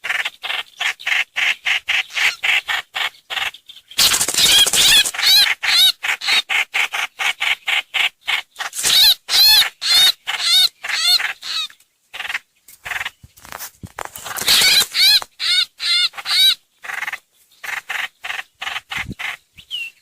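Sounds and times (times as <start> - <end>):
harsh repeated bird calls: 0.0 - 13.5, 14.1 - 20.0.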